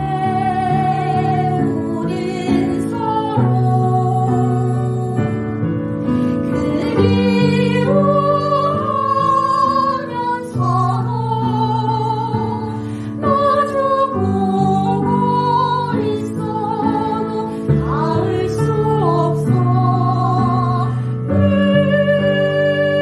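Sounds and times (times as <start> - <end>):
two singers singing a duet: 0.0 - 5.3, 6.5 - 23.0
instrumental accompaniment of held chords: 0.0 - 23.0.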